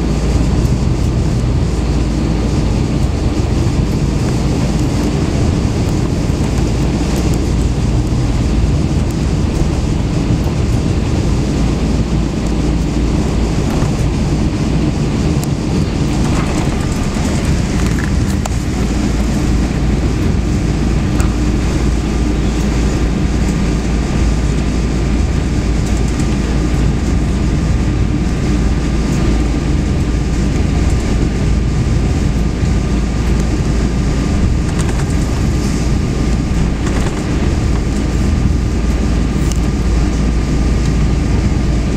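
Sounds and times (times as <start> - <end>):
aircraft engines rumbling: 0.0 - 41.9
thin high hum: 0.0 - 41.9.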